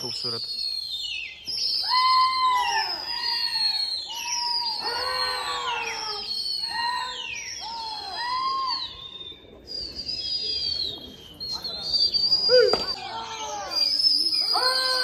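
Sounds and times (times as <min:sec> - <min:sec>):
people giving shrill calls and whistles: 0:00.0 - 0:15.0.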